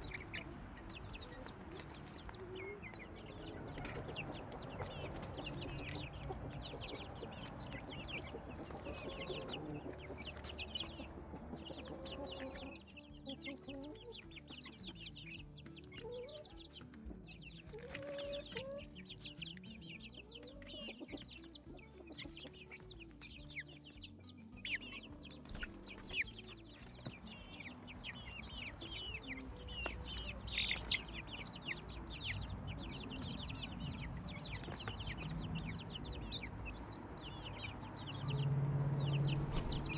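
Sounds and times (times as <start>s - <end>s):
low clucking calls: 0.0s - 35.3s
chicks peeping: 0.0s - 39.9s.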